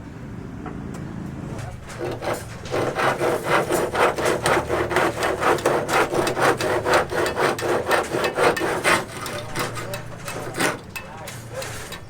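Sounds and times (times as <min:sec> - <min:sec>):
hand saw cutting: 0:01.7 - 0:12.0.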